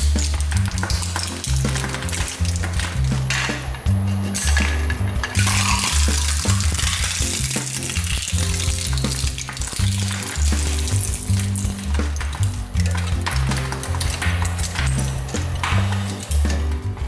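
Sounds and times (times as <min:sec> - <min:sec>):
shredder crunching plastic: 0:00.0 - 0:03.8, 0:04.4 - 0:16.7.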